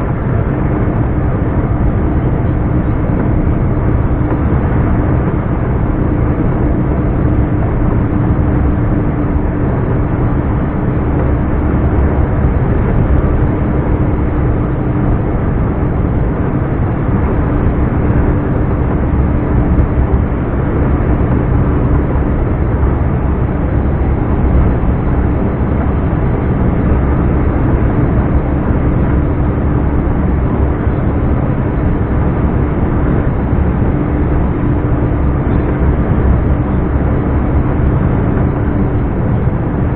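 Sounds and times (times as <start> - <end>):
truck engine droning: 0.0 - 39.9.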